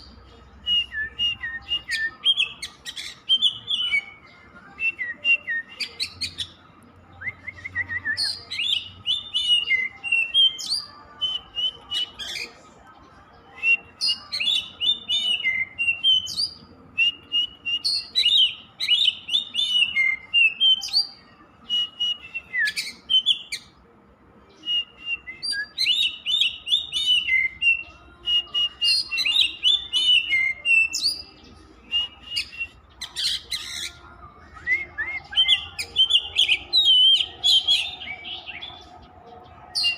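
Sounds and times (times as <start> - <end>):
bird singing whistles and chirps: 0.6 - 6.6, 7.2 - 23.7, 24.5 - 39.9.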